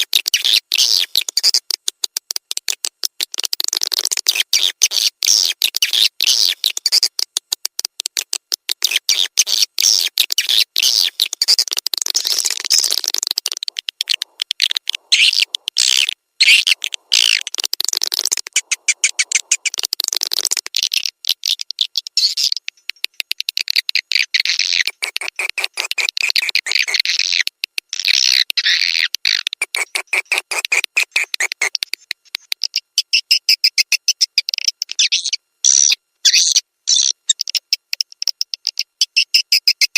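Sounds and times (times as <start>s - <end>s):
swiftlet calls chattering: 0.0s - 1.8s, 2.8s - 7.3s, 8.2s - 39.9s.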